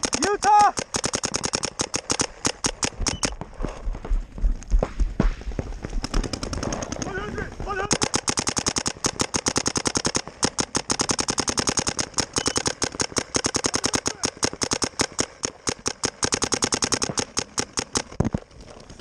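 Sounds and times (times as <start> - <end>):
paintball marker rapid firing: 0.0 - 3.6, 4.8 - 18.5.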